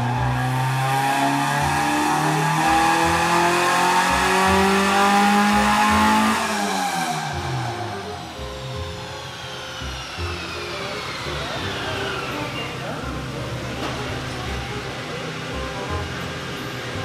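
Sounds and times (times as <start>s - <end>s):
car engine revving on dyno: 0.0s - 17.0s.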